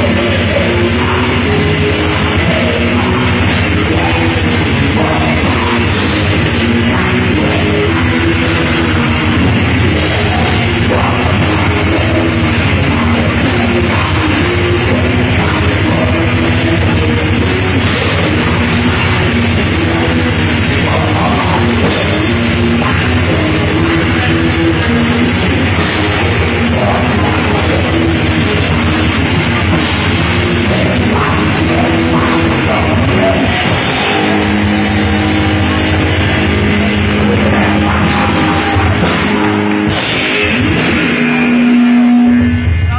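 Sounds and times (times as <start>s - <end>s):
distorted guitar riff: 0.0s - 42.9s
fast drumming: 0.0s - 42.9s.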